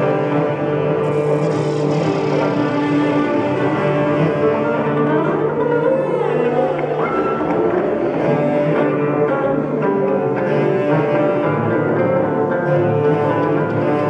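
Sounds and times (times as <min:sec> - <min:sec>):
bowed cello: 0:00.0 - 0:14.0
ensemble sustained tones: 0:00.0 - 0:14.0.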